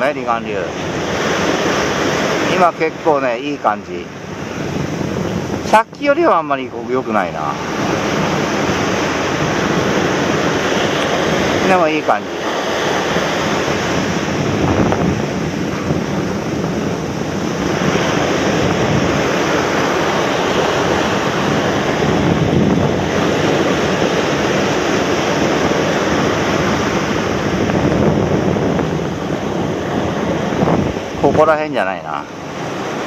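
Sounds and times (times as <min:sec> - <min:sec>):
waves washing up a beach: 0:00.0 - 0:33.0
wind buffeting microphone: 0:00.0 - 0:33.0.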